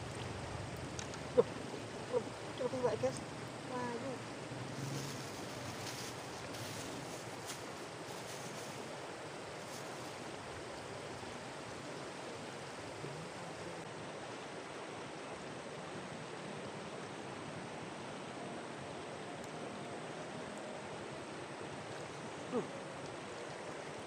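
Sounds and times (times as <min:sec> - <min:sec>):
river rushing over stones: 0:00.0 - 0:24.0.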